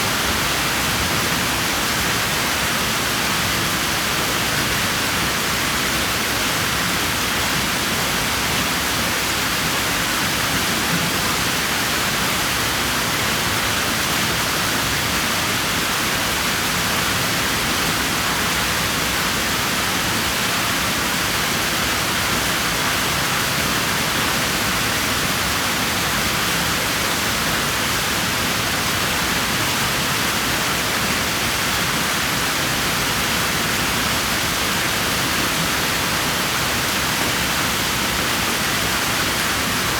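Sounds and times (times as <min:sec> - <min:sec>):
pool water rushing: 0:00.0 - 0:39.9.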